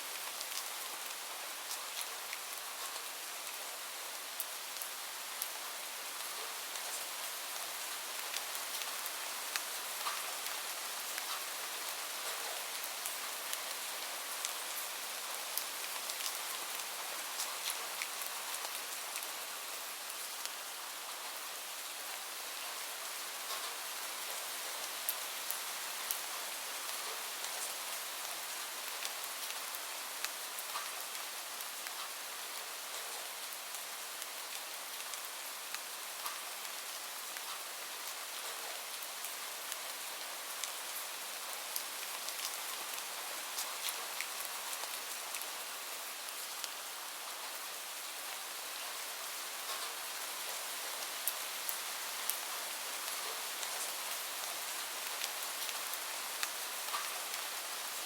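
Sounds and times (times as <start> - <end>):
steady rain hiss: 0.0 - 58.0
raindrops ticking on a surface: 0.1 - 3.6, 4.2 - 21.8, 22.5 - 58.0.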